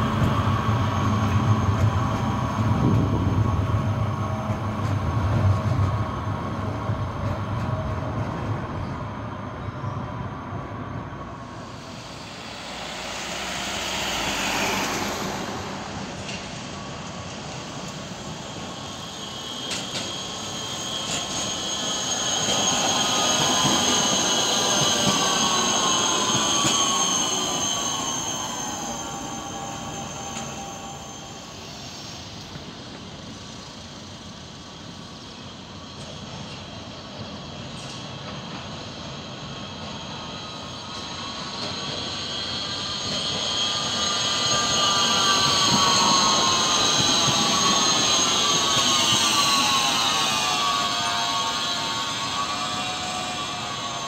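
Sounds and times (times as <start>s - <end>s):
tram electric drive whine: 0.0s - 54.0s.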